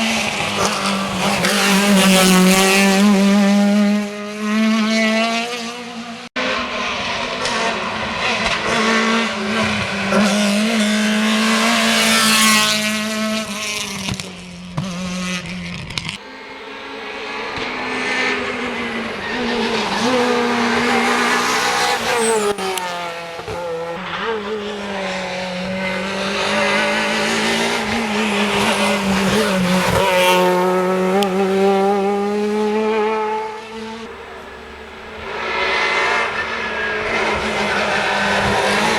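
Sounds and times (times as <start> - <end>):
cars passing by: 0.0 - 38.9
rally car engines revving: 0.0 - 38.9.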